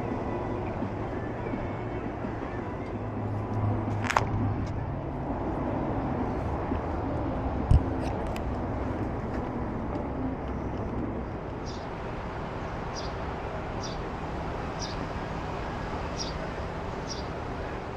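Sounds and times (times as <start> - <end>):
outdoor noise: 0.0 - 17.9.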